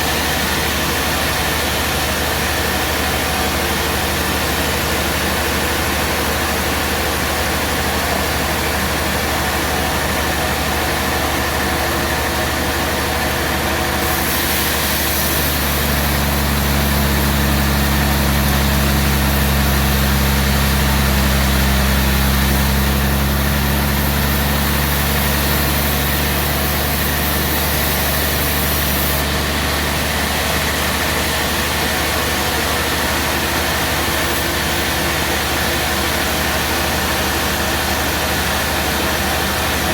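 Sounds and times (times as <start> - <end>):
band sawmill engine running: 0.0 - 39.9.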